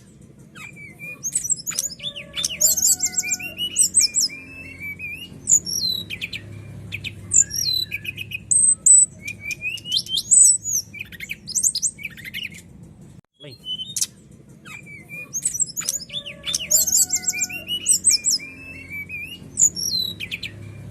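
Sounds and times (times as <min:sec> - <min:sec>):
songbird singing: 0:00.0 - 0:20.9.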